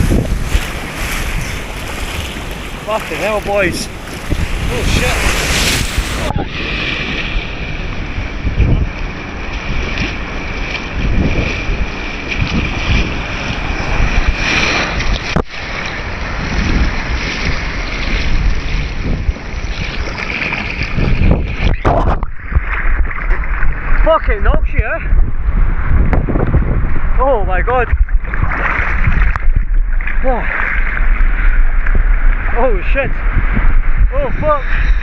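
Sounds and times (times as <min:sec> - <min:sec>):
water splashing: 0:00.0 - 0:24.1, 0:27.8 - 0:33.6
sea surf breaking: 0:00.0 - 0:24.8, 0:30.0 - 0:35.0
wind buffeting microphone: 0:00.0 - 0:35.0.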